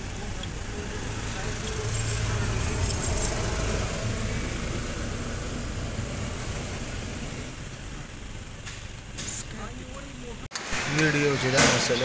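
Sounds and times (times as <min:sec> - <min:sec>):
car engine idling: 0:00.0 - 0:10.5.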